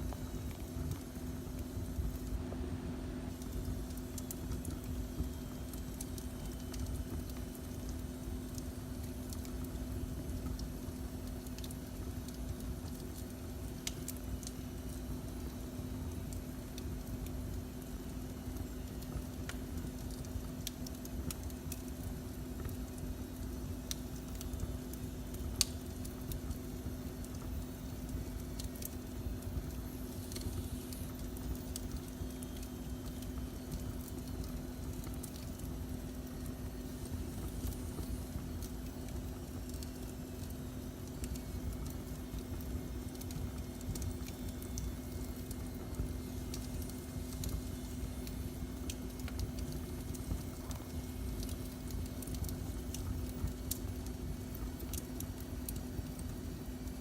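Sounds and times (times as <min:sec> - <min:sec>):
fire crackling and popping: 0:00.0 - 0:57.0
low rumble and hum: 0:00.0 - 0:57.0.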